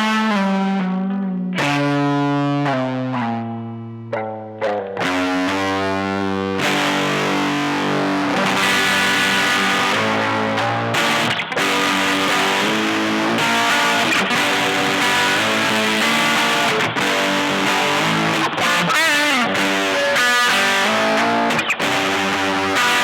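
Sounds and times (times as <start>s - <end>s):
distorted electric guitar chords: 0.0s - 23.0s.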